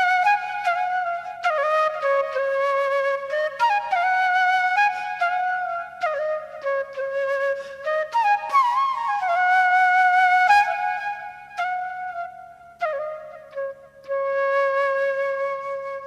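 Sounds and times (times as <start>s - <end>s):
flute playing slow melody: 0.0s - 16.0s.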